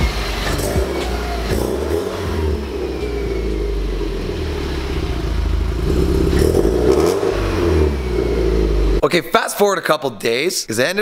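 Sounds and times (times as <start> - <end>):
car engine exhaust at low speed: 0.0 - 9.0.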